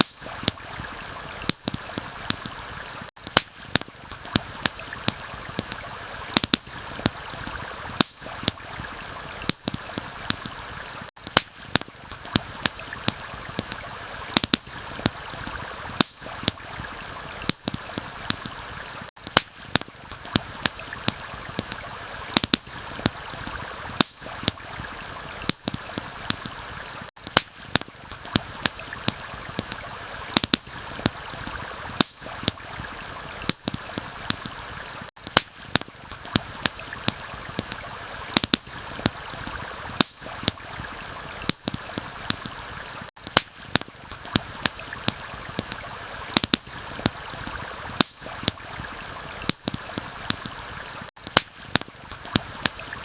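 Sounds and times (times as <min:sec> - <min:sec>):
campfire crackling and popping: 0:00.0 - 0:53.0
flowing stream: 0:00.0 - 0:53.0.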